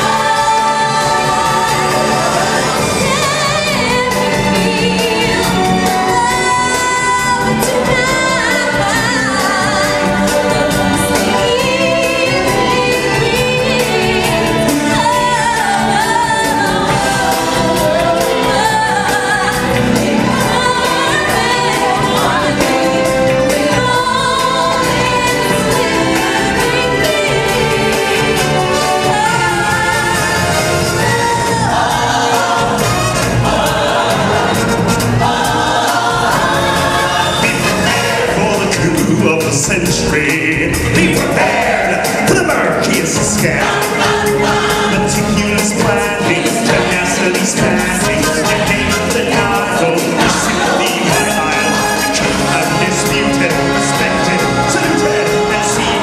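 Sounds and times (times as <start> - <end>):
choir singing with instruments: 0.0 - 56.0.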